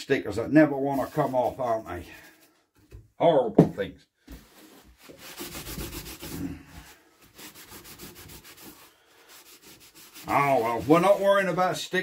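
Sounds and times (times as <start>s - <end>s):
cloth rag rubbing on sheet metal: 0.4s - 2.5s, 4.4s - 12.0s.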